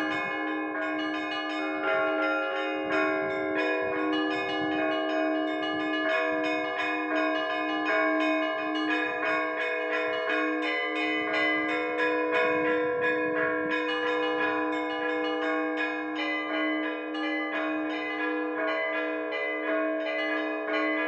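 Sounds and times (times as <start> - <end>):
low church bell ringing: 0.0 - 21.0
small church bells ringing rapidly: 0.0 - 21.0.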